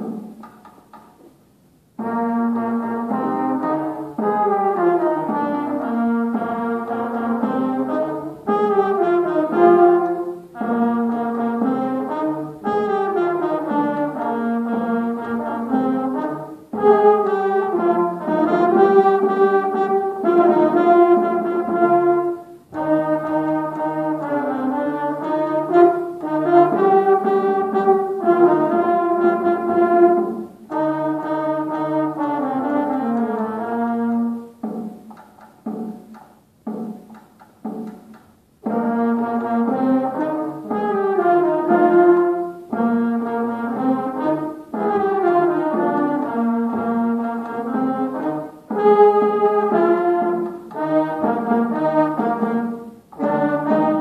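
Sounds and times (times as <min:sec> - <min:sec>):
concert band playing: 0:02.0 - 0:38.0, 0:38.6 - 0:54.0.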